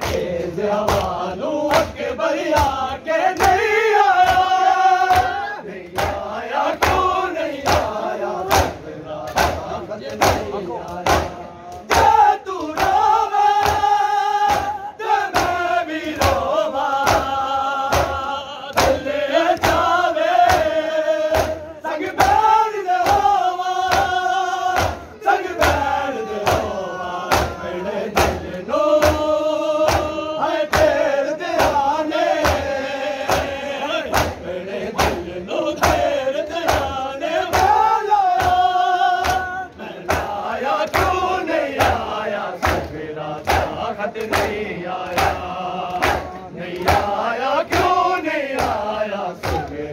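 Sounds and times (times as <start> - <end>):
hands slapping chests: 0.0 - 49.9
men singing in unison: 0.0 - 49.9.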